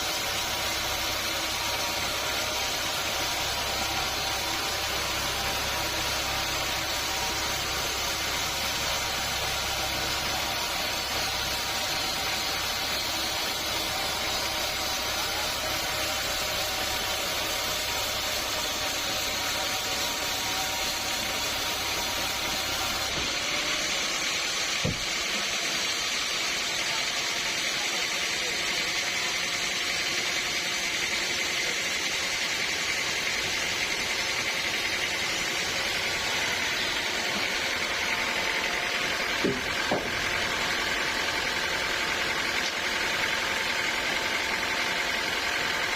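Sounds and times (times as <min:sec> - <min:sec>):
machine whining tones: 0:00.0 - 0:45.9
sawmill machinery running: 0:00.0 - 0:45.9.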